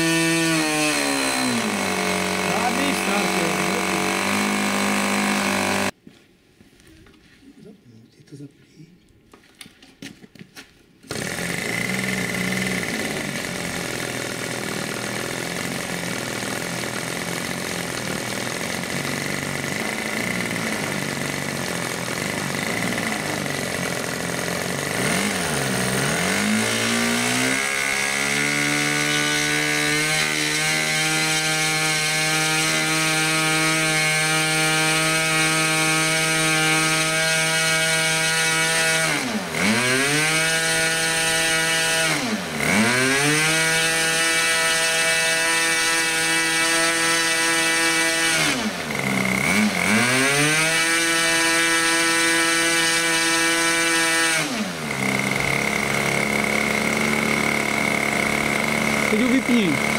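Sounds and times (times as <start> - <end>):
model aircraft engine running: 0.0 - 5.9, 11.1 - 34.0, 34.8 - 59.9.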